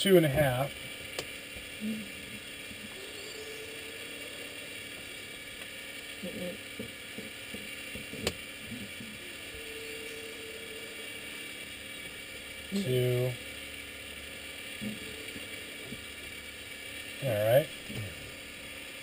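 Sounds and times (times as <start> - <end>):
faint electrical whine: 0.0 - 19.0
steady hiss: 0.0 - 19.0.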